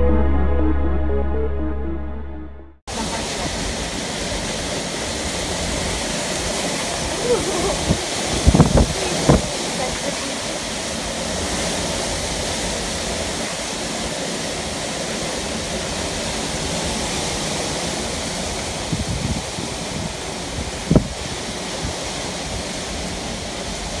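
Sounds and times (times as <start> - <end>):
storm wind rushing through trees: 2.9 - 24.0.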